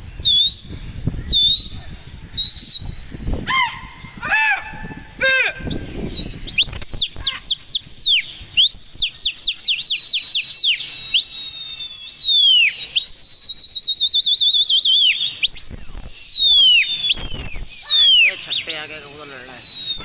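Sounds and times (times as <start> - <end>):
loud shrill human whistling: 0.2 - 3.7, 5.6 - 20.0.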